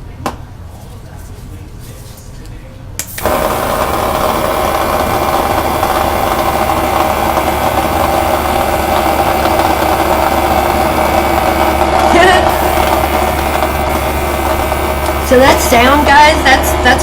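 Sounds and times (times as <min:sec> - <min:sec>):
buzzing rattle of vibrating paint: 0:03.1 - 0:17.0
small air compressor running: 0:03.1 - 0:17.0.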